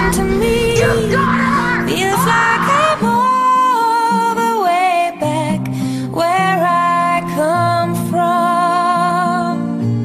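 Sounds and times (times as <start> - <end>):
person singing slow song: 0.0 - 9.9.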